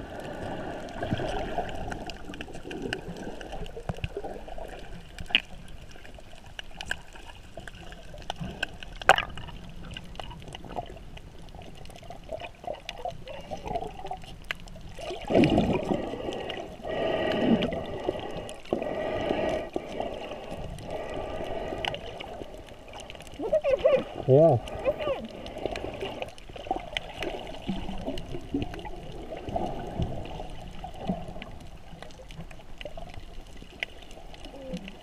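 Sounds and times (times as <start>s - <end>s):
underwater gurgling and sloshing: 0.0s - 35.0s.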